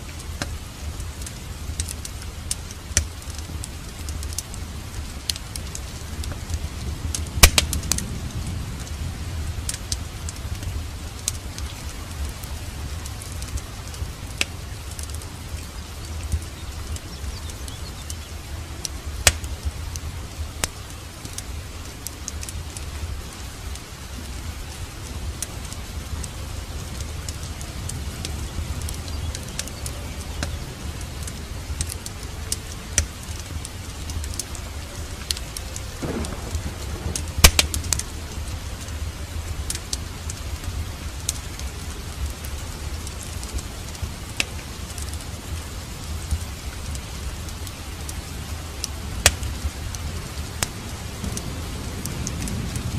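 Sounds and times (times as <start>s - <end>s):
steady rain: 0.0s - 52.9s
wood fire crackling: 0.0s - 52.9s.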